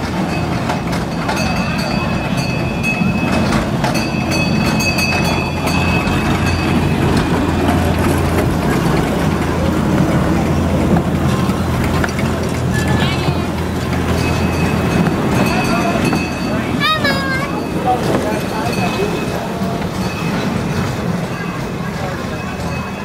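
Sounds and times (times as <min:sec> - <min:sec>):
miniature train rumbling on track: 0:00.0 - 0:23.0.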